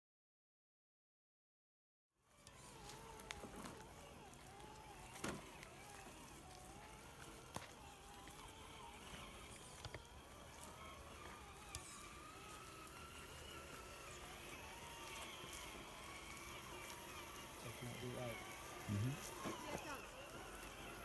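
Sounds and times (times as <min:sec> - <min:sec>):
electric motor whine: 0:02.2 - 0:21.0.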